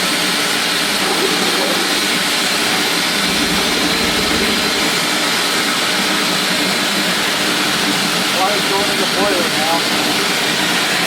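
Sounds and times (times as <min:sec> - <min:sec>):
water injector rushing hiss: 0:00.2 - 0:11.0.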